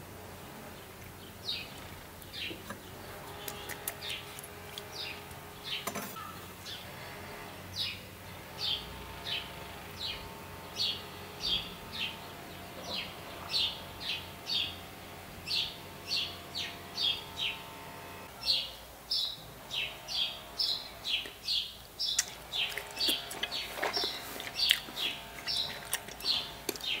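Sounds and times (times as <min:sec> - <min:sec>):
small bird chirping: 0:00.7 - 0:27.0.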